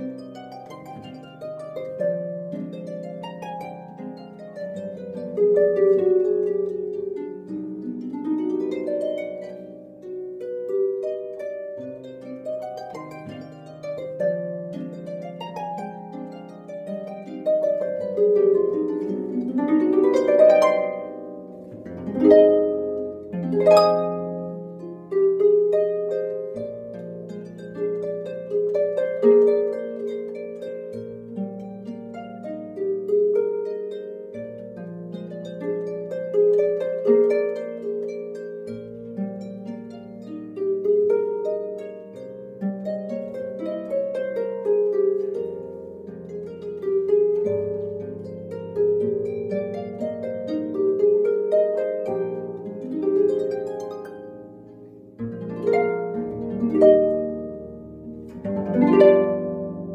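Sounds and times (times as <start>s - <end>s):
harp playing: 0.0s - 59.9s.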